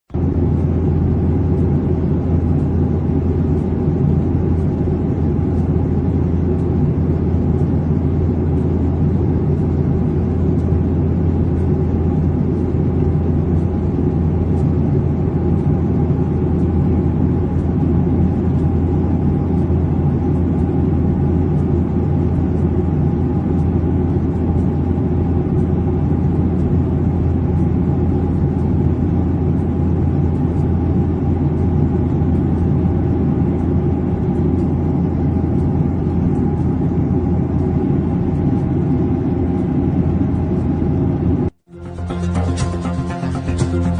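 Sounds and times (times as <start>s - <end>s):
airliner cabin drone: 0.1s - 43.9s.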